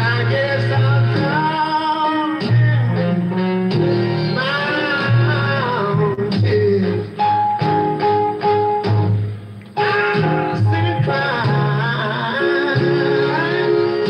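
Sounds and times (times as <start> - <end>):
old-school r and b record: 0.0 - 14.0.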